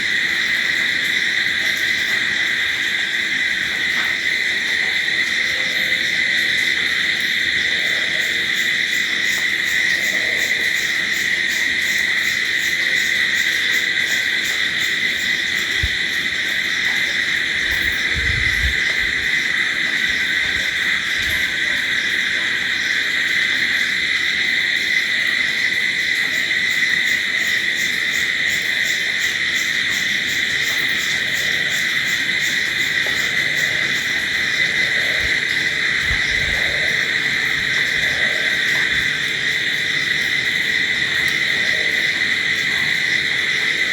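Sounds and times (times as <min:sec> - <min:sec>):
crickets trilling: 0:00.0 - 0:43.9.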